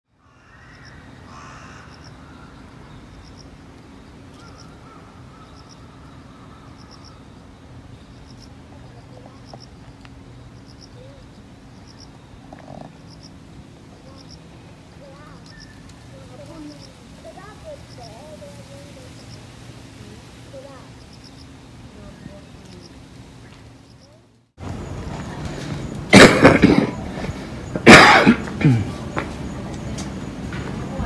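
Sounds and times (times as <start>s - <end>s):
small birds chirping: 0.2s - 26.1s.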